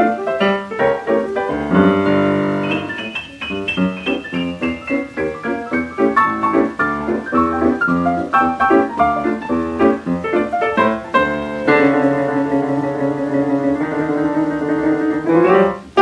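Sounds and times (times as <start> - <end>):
jazz piano: 0.0 - 16.0.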